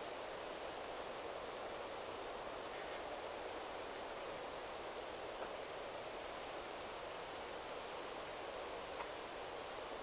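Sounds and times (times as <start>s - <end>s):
wind rustling through trees: 0.0s - 10.0s.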